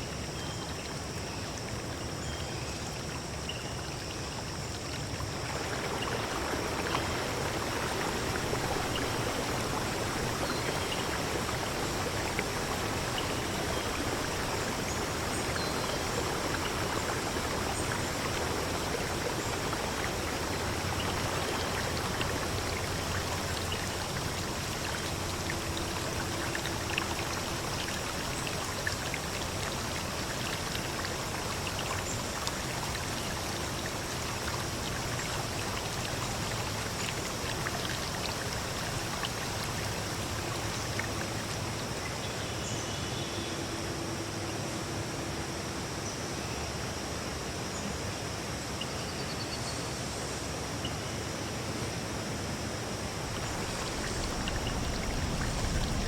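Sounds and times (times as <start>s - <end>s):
stream flowing: 0.0s - 49.0s, 49.8s - 56.0s.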